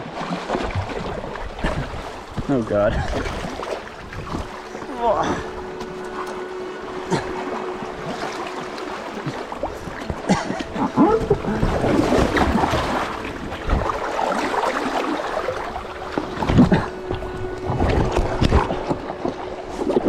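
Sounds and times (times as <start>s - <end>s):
river water splashing and gurgling: 0.0s - 20.0s.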